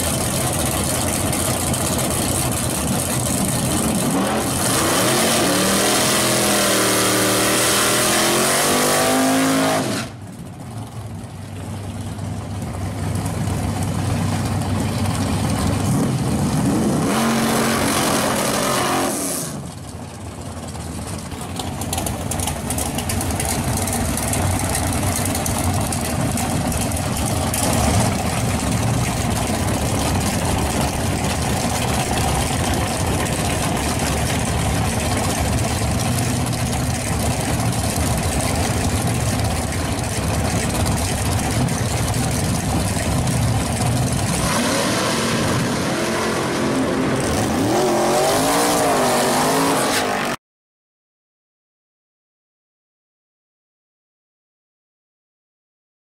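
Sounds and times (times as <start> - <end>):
drag car engine revving: 0.0 - 11.0, 12.6 - 50.4.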